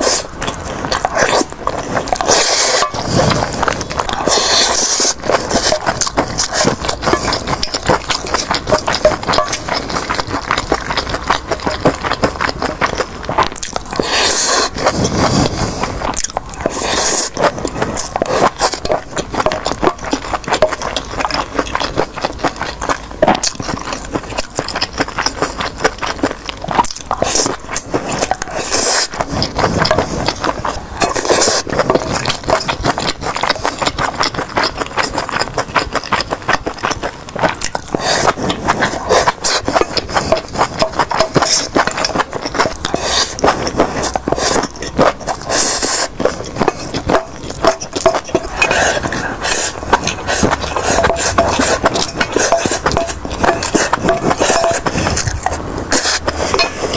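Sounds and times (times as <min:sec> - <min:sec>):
sharp clicks and scrapes: 0:00.0 - 0:25.6, 0:36.8 - 0:56.9
chewing and crunching: 0:00.0 - 0:56.9.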